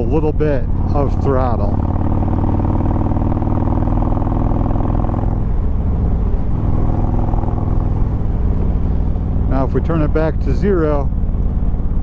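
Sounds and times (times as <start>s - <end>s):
motorcycle engine under throttle: 0.0s - 12.0s.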